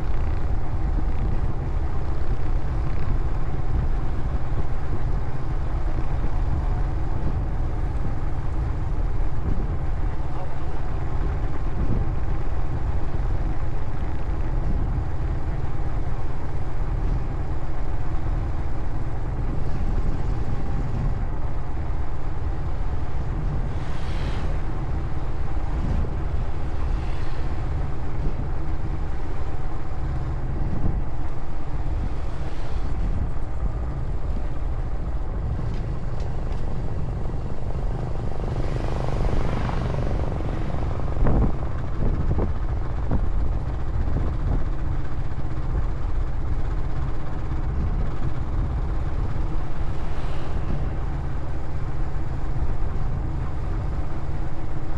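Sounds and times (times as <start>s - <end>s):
motorcycle running: 0.0s - 54.9s
vehicles passing: 0.0s - 54.9s.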